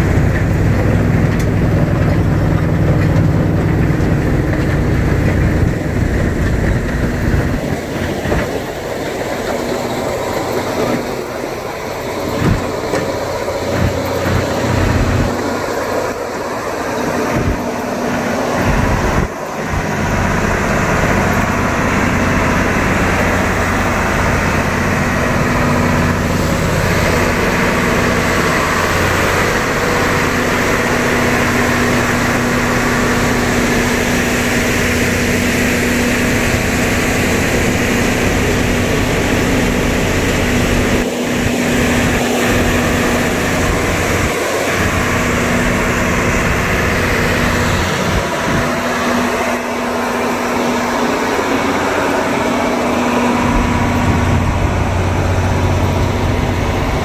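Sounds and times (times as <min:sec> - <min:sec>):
diesel engine drone: 0:00.0 - 0:57.0
rock crusher grinding: 0:00.0 - 0:57.0.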